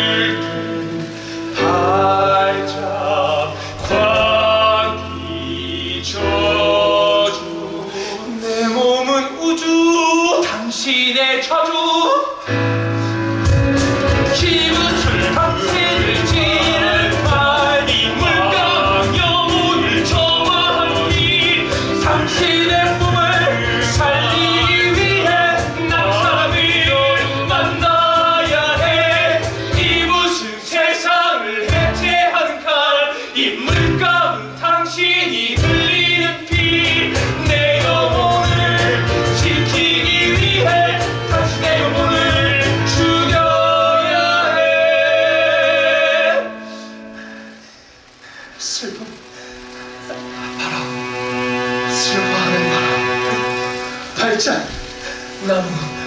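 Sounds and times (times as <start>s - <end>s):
band accompaniment: 0.0s - 8.6s, 12.4s - 48.0s, 49.2s - 56.0s
men singing: 0.0s - 12.7s, 13.4s - 47.6s, 50.2s - 56.0s.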